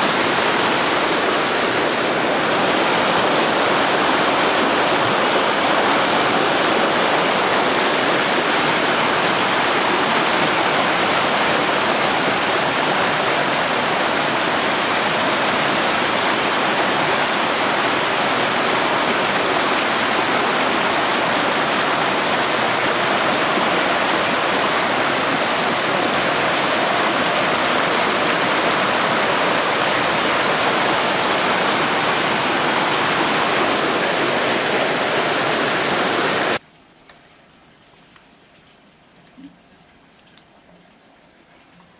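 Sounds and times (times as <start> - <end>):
floodwater rushing: 0.0 - 36.6.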